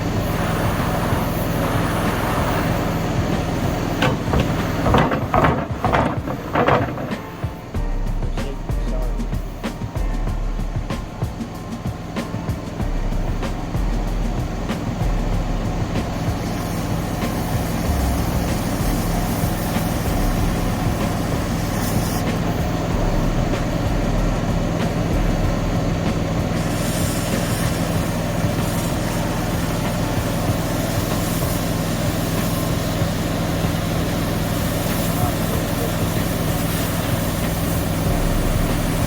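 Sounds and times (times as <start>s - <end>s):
cutting torch hissing: 0.0s - 39.0s
low machine hum: 0.0s - 39.0s.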